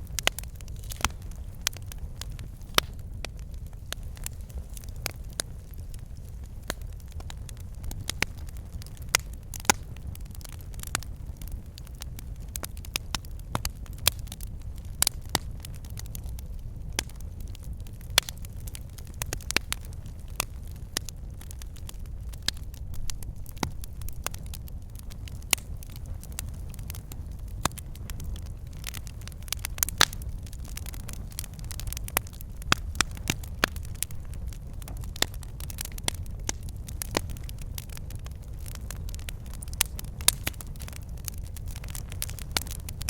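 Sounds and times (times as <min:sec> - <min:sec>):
logs crackling and popping: 0:00.0 - 0:43.0
low rumble of flame: 0:00.0 - 0:43.0.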